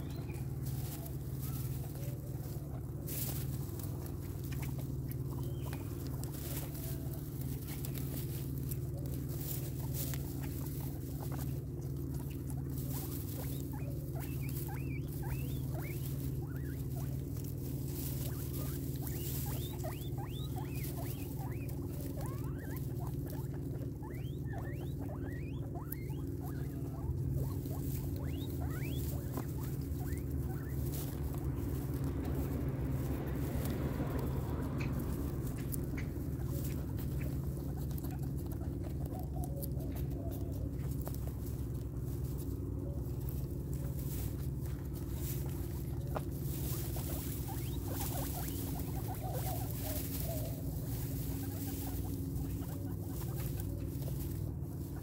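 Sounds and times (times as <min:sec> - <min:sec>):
guinea pigs chewing and crunching: 0:00.0 - 0:55.0
guinea pigs squeaking: 0:00.0 - 0:55.0
steady low hum: 0:00.0 - 0:55.0.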